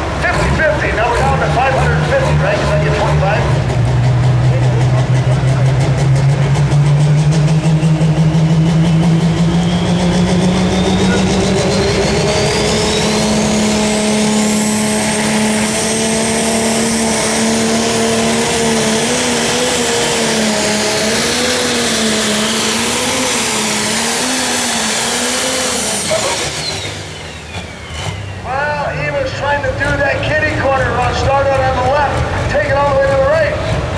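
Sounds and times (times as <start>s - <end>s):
diesel engine under full load: 0.0s - 33.9s
high turbo whine: 0.0s - 33.9s.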